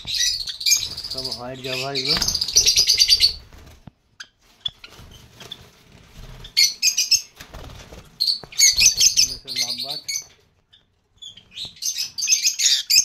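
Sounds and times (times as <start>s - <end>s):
birds chirping rapidly: 0.0s - 13.0s.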